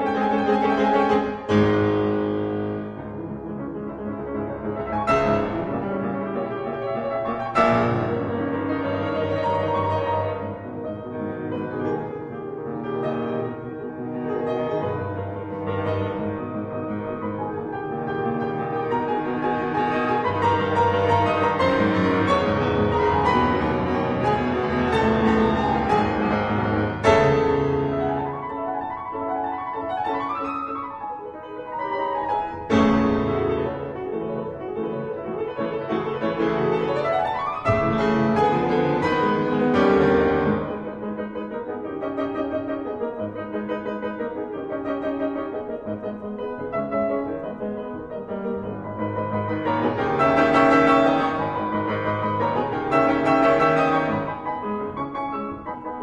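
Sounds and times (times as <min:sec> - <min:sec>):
classical piano piece: 0:00.0 - 0:56.0.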